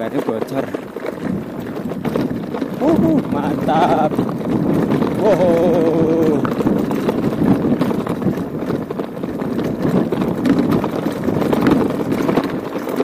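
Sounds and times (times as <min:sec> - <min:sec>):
bike rattling over cobblestones: 0:00.0 - 0:13.0.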